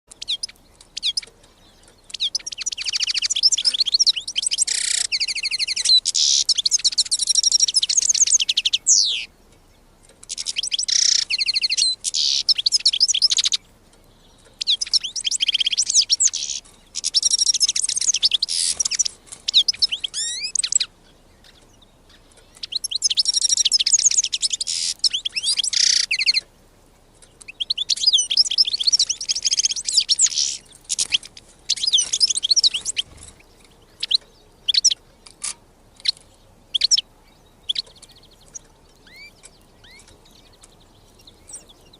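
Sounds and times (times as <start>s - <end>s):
goldfinch twittering: 0.1s - 9.3s, 10.2s - 26.5s, 27.2s - 41.9s.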